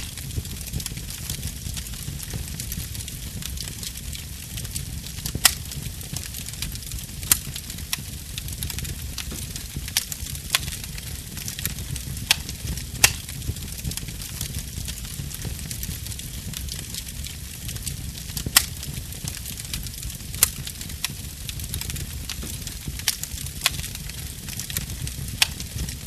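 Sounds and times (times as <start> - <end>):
crackles and pops of burning wood: 0.0 - 26.0
wood fire burning: 0.0 - 26.0.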